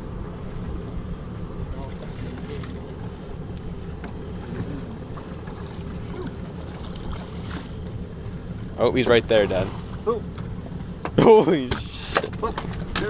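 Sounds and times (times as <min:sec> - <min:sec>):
water lapping against hull: 0:00.0 - 0:13.0.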